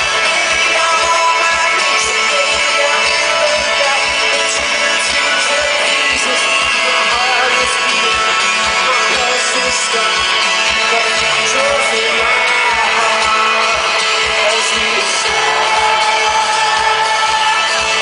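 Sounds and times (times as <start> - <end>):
person singing: 0.0 - 18.0
strummed guitar: 0.0 - 18.0.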